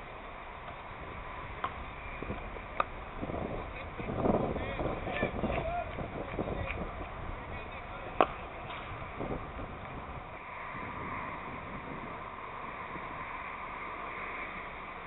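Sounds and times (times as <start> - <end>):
steady background hiss: 0.0 - 15.0
wind rumbling on microphone: 0.0 - 15.0.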